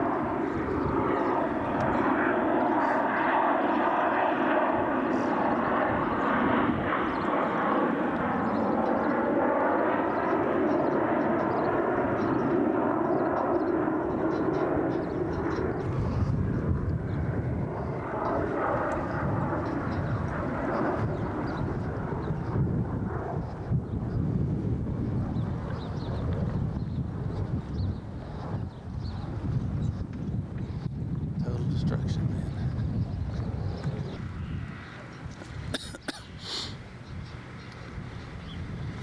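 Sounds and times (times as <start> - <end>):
aircraft engine drone: 0.0 - 39.0
wind rumbling on microphone: 0.0 - 39.0.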